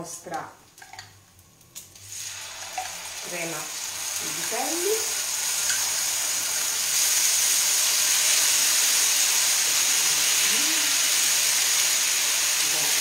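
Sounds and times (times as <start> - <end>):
sizzling in a hot pan: 2.0 - 13.0.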